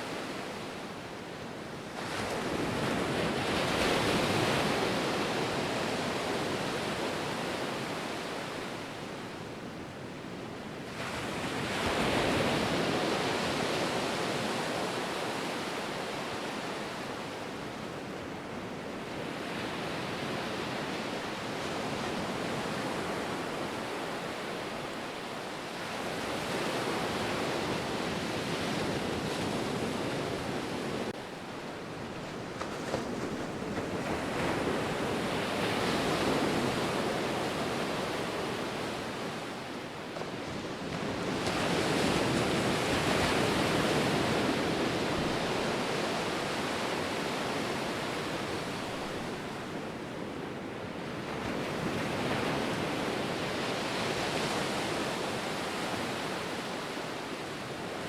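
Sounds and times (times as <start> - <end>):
ocean waves breaking on shore: 10.9 - 58.0.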